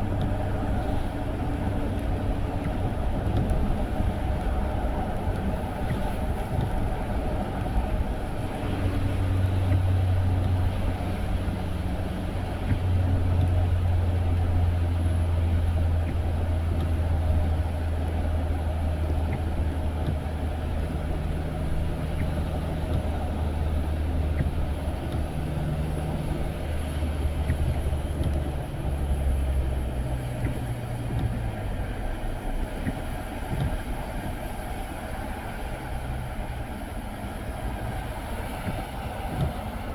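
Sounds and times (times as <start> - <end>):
car engine hum: 0.0 - 39.9
road noise inside car: 0.0 - 39.9.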